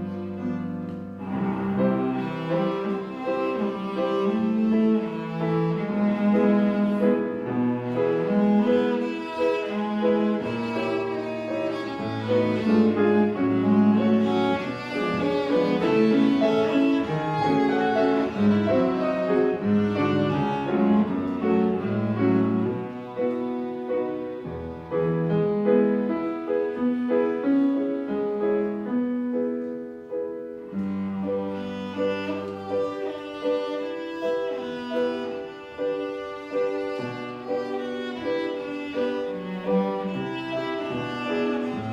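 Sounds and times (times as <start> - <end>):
cello melody: 0.0 - 41.9
piano accompaniment: 0.0 - 41.9.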